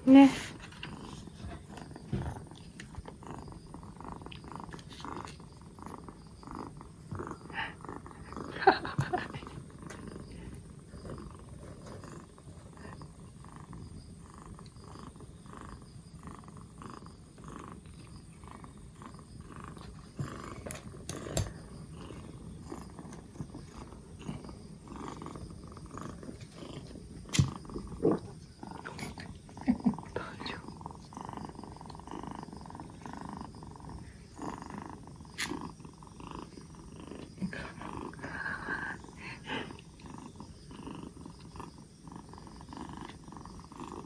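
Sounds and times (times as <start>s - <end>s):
kitten purring: 0.0s - 44.0s.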